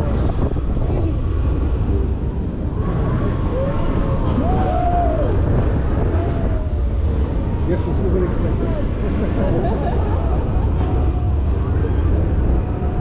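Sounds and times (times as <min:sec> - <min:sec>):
ride rumbling along track: 0:00.0 - 0:13.0
wind on microphone: 0:00.0 - 0:13.0.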